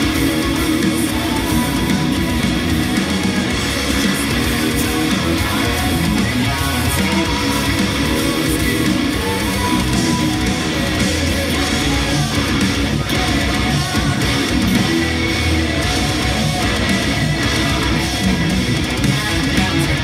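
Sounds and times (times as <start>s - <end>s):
electric guitar playing heavy metal: 0.0s - 20.0s.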